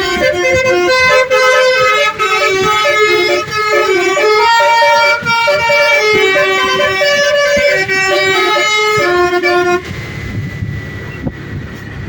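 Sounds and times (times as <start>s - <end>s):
bus horn playing a tune: 0.0s - 10.1s.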